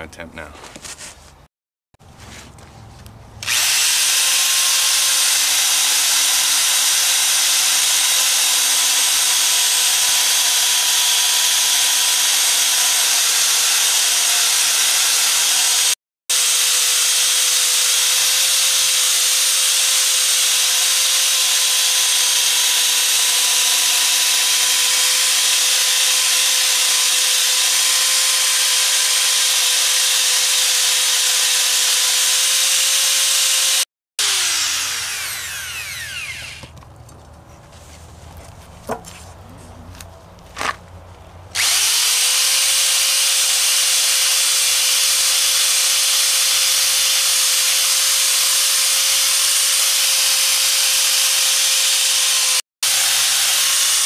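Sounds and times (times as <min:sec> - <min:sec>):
power drill motor whine: 0:03.4 - 0:36.8, 0:41.6 - 0:54.0.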